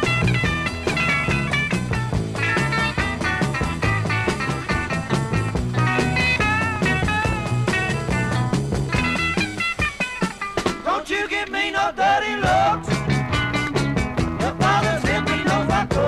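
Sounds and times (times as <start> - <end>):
bass line: 0.0 - 9.7, 12.4 - 16.0
rock and roll instrumental: 0.0 - 16.0
steady drum beat: 0.0 - 16.0.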